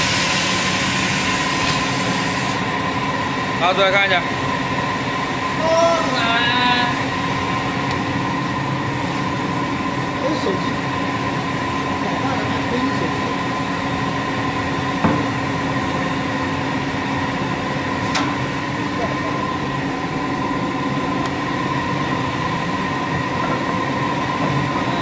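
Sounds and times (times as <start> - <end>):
workshop machinery humming and whining: 0.0 - 25.0.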